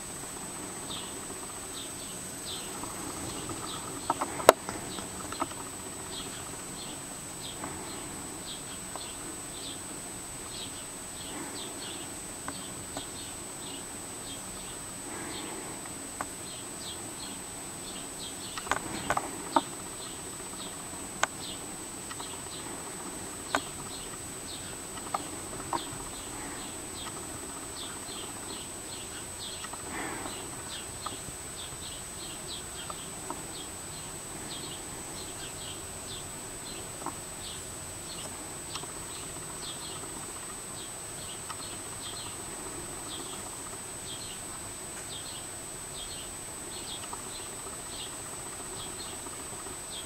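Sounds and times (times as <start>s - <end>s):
sparrows chirping: 0.0s - 50.0s.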